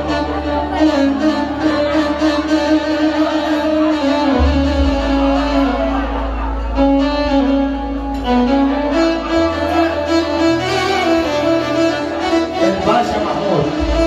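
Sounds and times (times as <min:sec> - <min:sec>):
steady low bass: 0:00.0 - 0:14.0
violin melody: 0:00.0 - 0:14.0.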